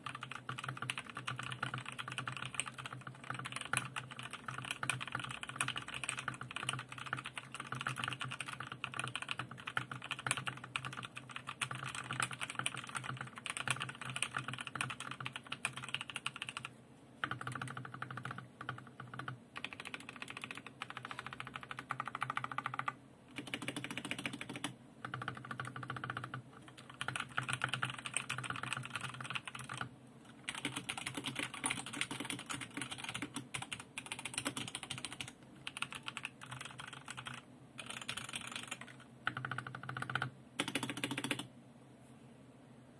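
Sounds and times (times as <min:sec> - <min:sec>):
mechanical keyboard typing: 0:00.0 - 0:41.5.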